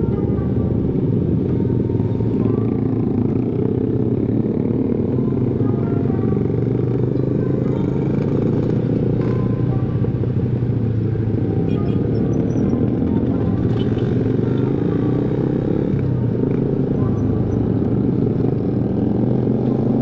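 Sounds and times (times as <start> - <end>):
motorcycles riding alongside: 0.0 - 20.0.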